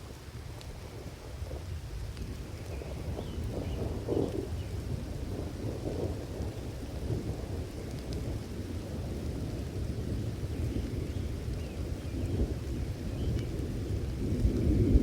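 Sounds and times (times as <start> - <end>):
steady rain: 0.0 - 15.0
rolling thunder: 0.9 - 15.0.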